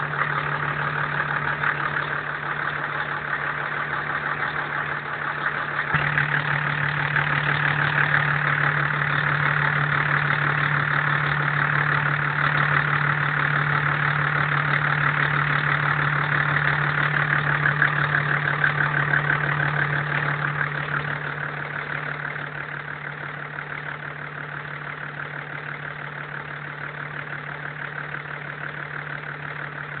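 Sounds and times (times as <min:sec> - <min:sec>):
diesel engine idling with knock: 0:00.0 - 0:30.0.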